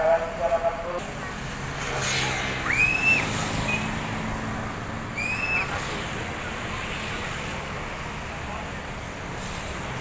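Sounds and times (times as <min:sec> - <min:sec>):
bus depot background noise: 0:00.0 - 0:10.0.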